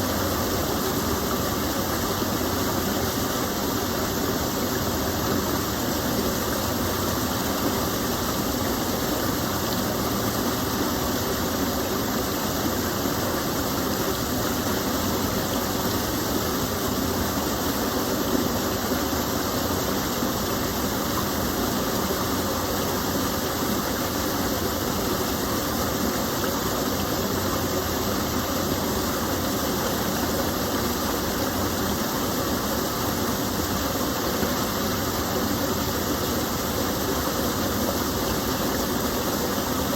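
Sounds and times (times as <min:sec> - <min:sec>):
stream of water flowing: 0:00.0 - 0:39.9.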